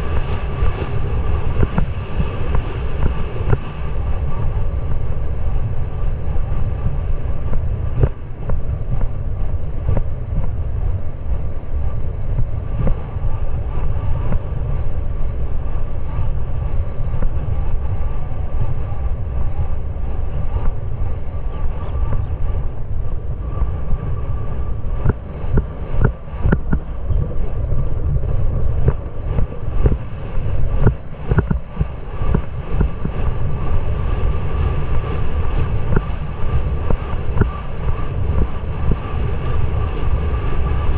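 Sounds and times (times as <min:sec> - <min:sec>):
faint steady whine: 0:00.0 - 0:40.9
wind buffeting microphone: 0:00.0 - 0:40.9.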